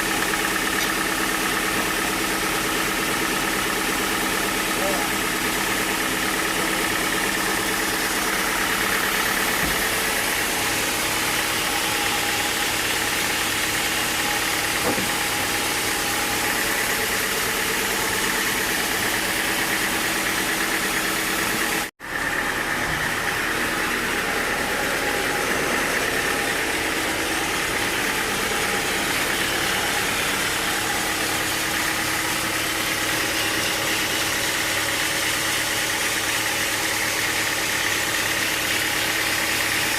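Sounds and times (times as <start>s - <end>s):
sawmill engine drone: 0.0s - 39.9s.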